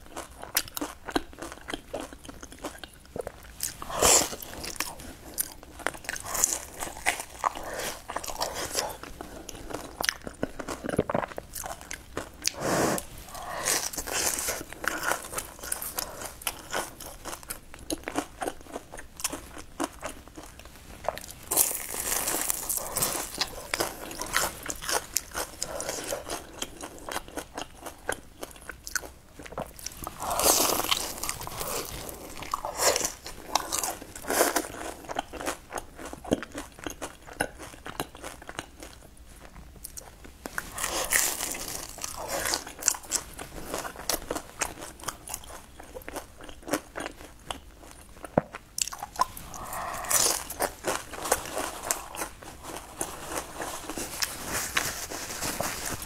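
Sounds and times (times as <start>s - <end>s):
crunchy pastry chewing: 0.0s - 56.0s.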